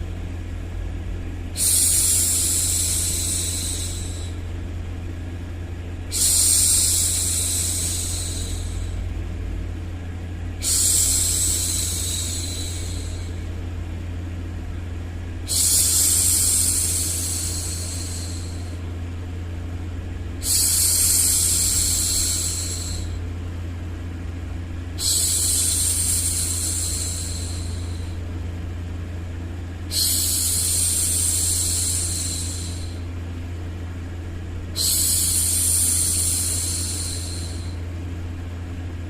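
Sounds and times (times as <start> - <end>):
low rumbling noise: 0.0 - 39.0.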